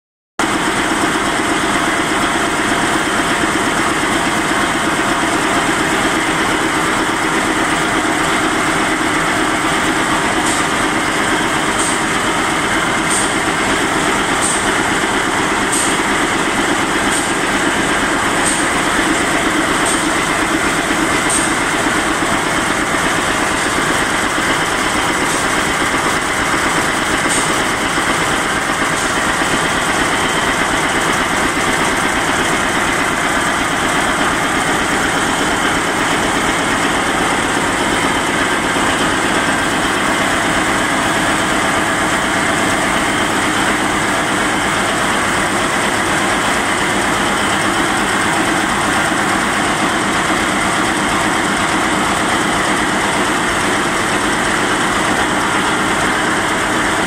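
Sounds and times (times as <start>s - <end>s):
weaving loom clattering: 0.4s - 57.0s.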